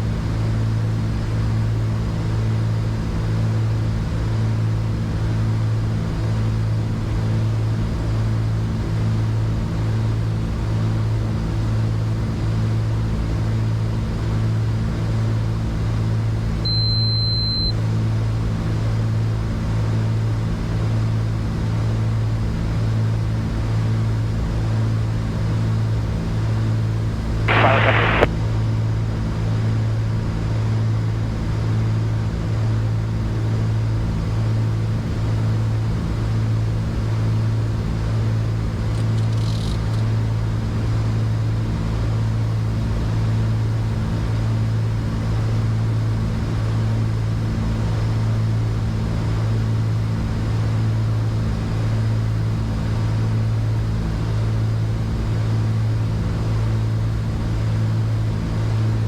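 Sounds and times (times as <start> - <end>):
aircraft engines droning in cabin: 0.0 - 28.3, 29.0 - 59.0.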